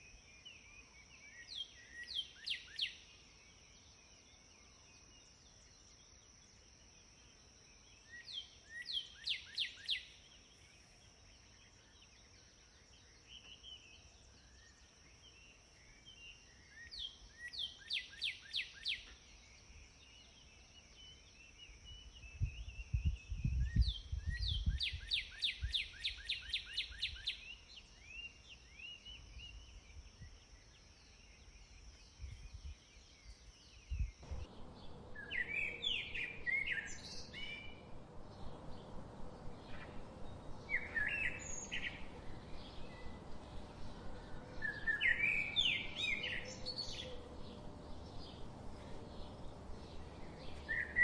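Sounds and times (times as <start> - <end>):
background hiss: 0.0 - 51.0
birds chirping and singing: 7.3 - 51.0.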